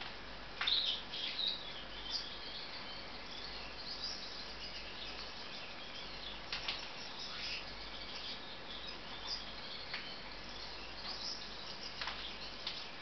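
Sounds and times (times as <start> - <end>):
background hiss: 0.0 - 13.0
finches chirping: 0.6 - 13.0.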